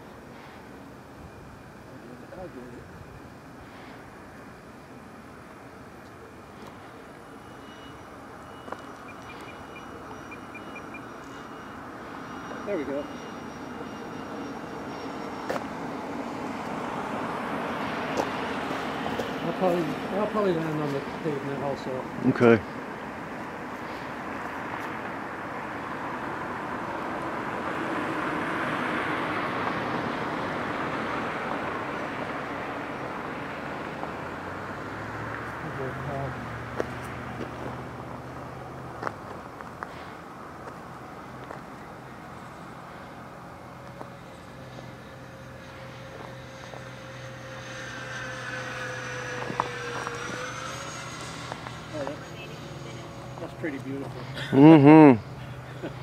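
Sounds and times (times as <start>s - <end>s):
model jet fans whining: 0.0s - 56.0s.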